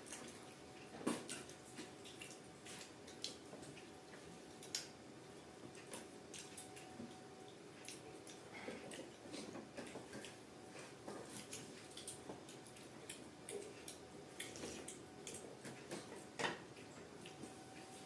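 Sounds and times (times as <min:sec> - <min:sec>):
chewing clicks and smacks: 0:00.0 - 0:05.0, 0:05.7 - 0:10.4, 0:11.1 - 0:16.2.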